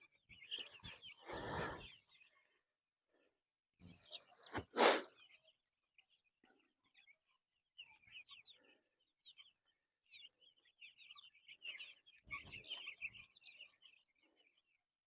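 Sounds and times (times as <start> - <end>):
chicks peeping: 0.0 - 2.6, 3.8 - 14.8.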